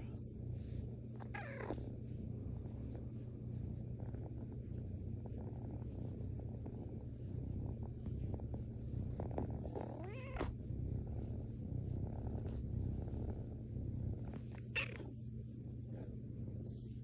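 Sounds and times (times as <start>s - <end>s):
kitten purring: 0.0s - 17.0s.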